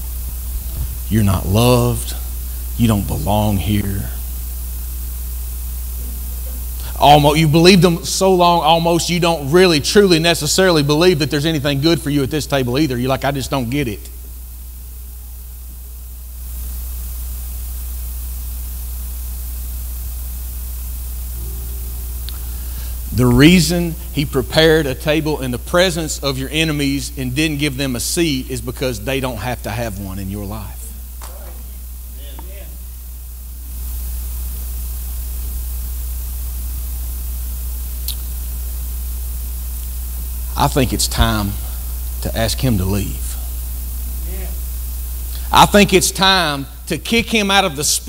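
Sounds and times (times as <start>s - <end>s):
low electrical hum: 0.0s - 48.0s
sound system hiss: 0.0s - 48.0s.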